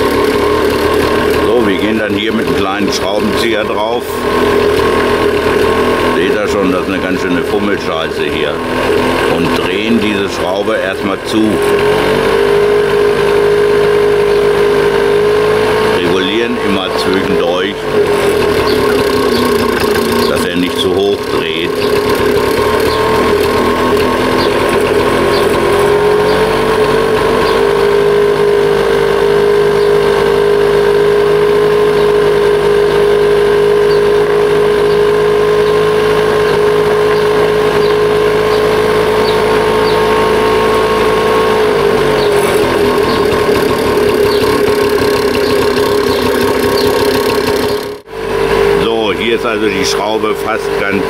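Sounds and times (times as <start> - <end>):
scooter engine idling fast: 0.0 - 51.0.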